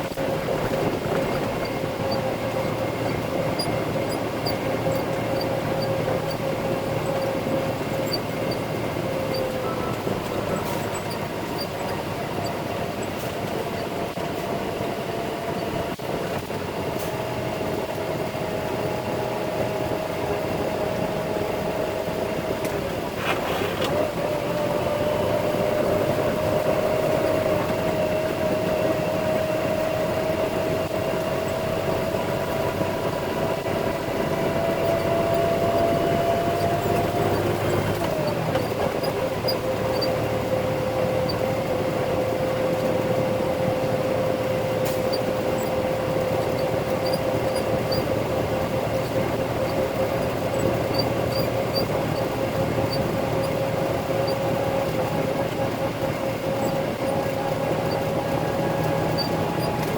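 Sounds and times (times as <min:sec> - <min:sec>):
truck diesel engine under load: 0:00.0 - 0:59.9.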